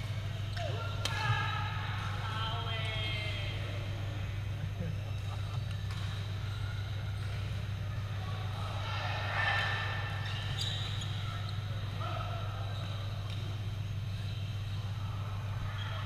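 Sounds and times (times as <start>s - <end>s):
distant players' voices: 0.0s - 16.0s
steady low hum: 0.0s - 16.0s.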